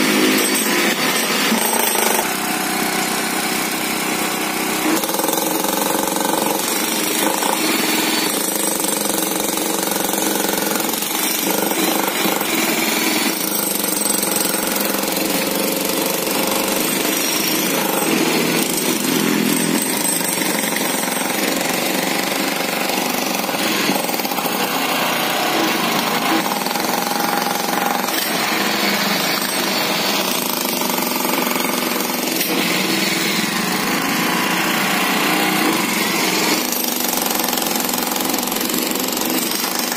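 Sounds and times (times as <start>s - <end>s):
generator running: 0.0s - 39.9s
jackhammer breaking concrete: 0.0s - 39.9s.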